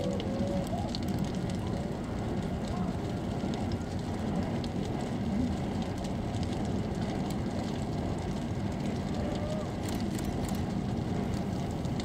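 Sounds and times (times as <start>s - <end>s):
bonfire flames rumbling: 0.0s - 12.0s
fire crackling and popping: 0.0s - 12.0s.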